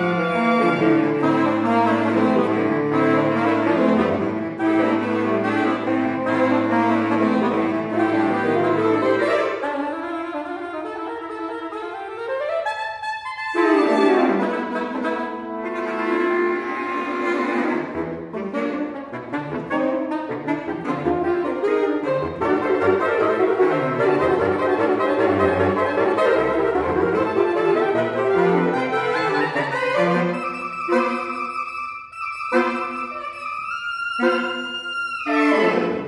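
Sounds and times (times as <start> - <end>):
saxophone quartet playing tango: 0.0 - 36.0.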